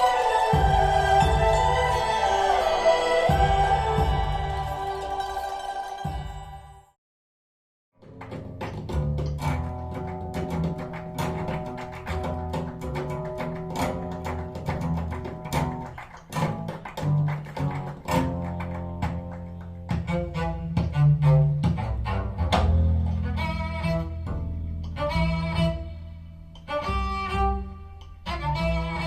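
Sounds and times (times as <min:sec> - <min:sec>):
music with low bowed strings: 0:00.0 - 0:06.8, 0:08.0 - 0:29.0.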